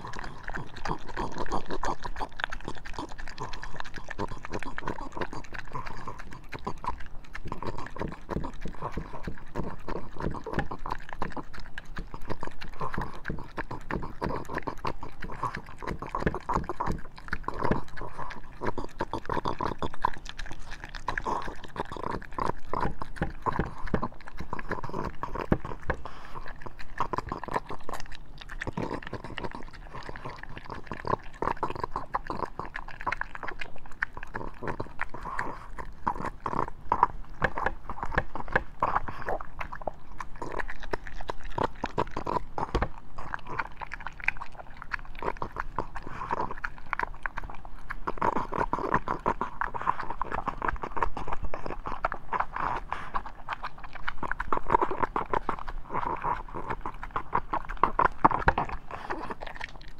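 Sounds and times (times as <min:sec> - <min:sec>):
dog chewing meat: 0:00.0 - 0:59.9.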